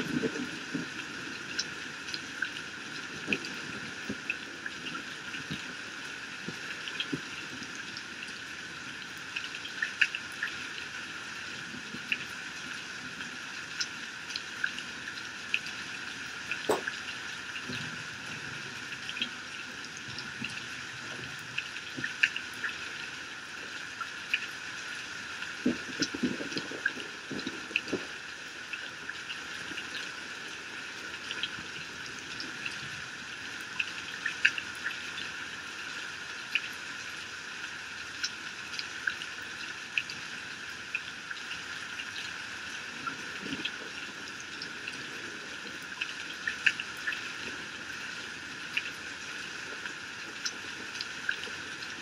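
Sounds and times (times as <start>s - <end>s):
heavy rain splashing on ground: 0.0s - 52.0s.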